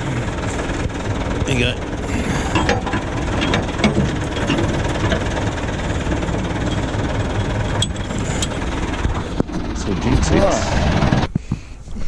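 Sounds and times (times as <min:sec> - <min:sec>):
tractor engine idling: 0:00.0 - 0:11.9.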